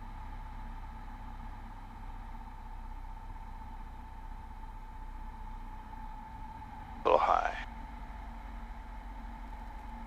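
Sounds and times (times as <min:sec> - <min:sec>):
faint steady whine: 0:00.0 - 0:10.0
aircraft engine and propeller drone: 0:00.7 - 0:10.0.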